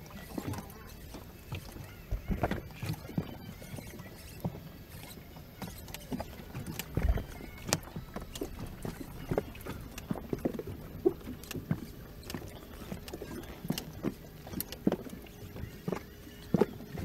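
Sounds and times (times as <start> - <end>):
knocks and creaks from boat and fishing gear: 0.0 - 17.0.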